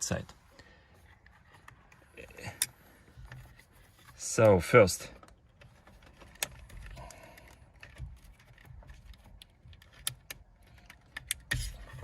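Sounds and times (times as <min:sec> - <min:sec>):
plastic parts handling noise: 0:00.9 - 0:12.0.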